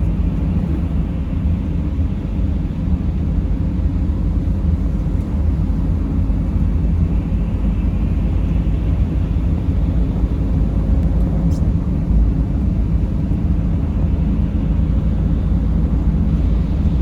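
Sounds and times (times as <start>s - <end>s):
van engine and road noise: 0.0s - 17.0s.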